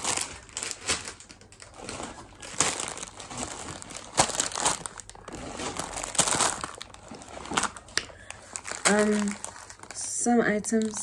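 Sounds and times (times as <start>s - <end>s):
grocery bag crinkling and rustling: 0.0s - 11.0s.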